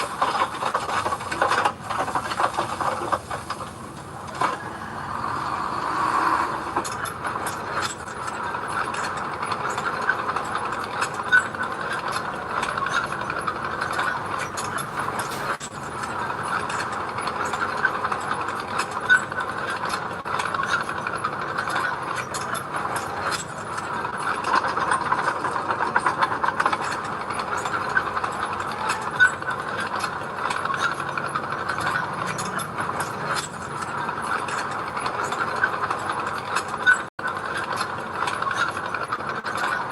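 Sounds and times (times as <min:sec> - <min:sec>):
machine clicking and clanking: 0:00.0 - 0:39.9
mini bulldozer engine running: 0:00.0 - 0:39.9.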